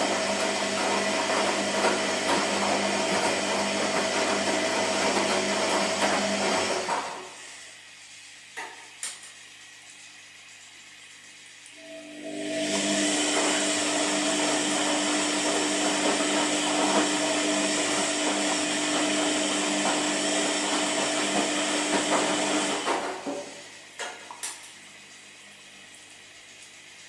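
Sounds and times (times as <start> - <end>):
washing machine whirring: 0.0 - 27.0.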